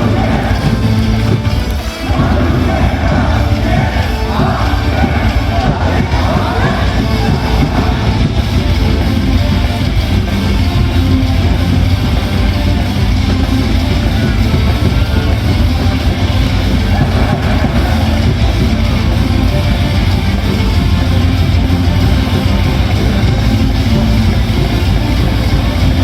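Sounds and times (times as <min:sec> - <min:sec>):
loud rock music: 0:00.0 - 0:26.0.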